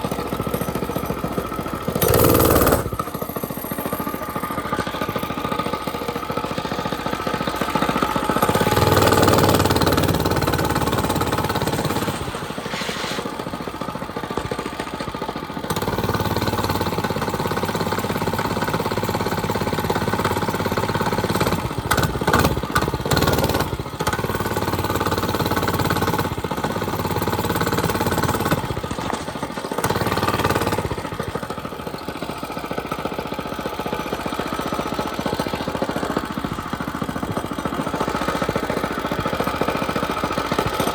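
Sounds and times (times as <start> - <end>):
mini bike engine running: 0.0 - 40.9.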